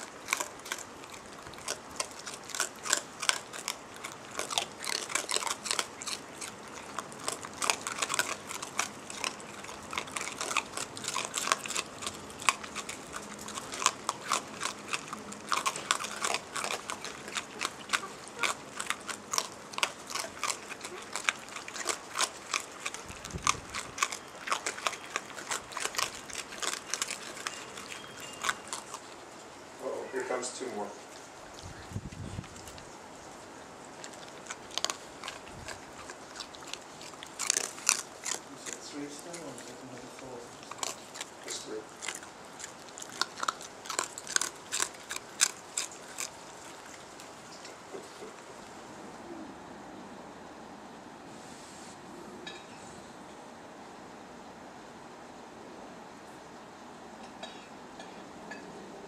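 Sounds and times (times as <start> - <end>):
raccoons chewing and crunching food: 0.0 - 50.1.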